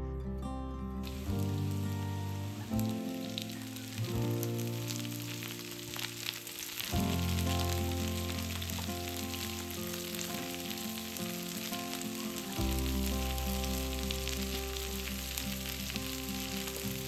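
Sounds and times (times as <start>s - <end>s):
background music: 0.0s - 17.0s
food sizzling in a pan: 1.0s - 17.0s.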